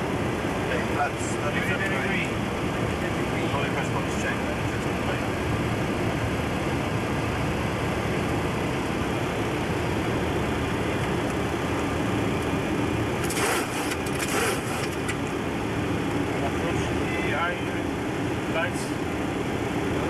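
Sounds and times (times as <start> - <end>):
airflow and engines in flight: 0.0 - 20.0.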